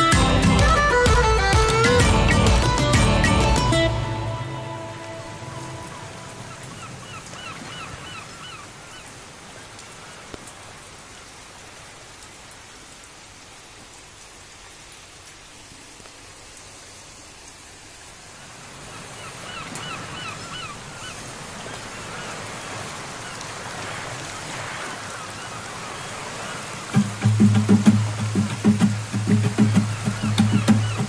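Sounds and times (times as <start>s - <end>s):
rain falling onto water: 0.0s - 31.0s.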